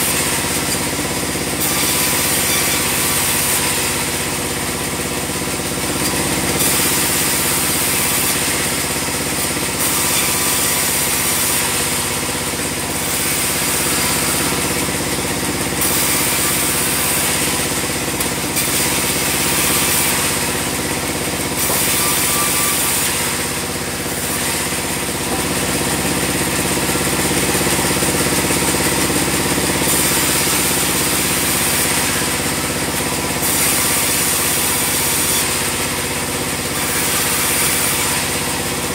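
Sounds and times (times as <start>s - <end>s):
sawmill machine drone: 0.0s - 38.9s.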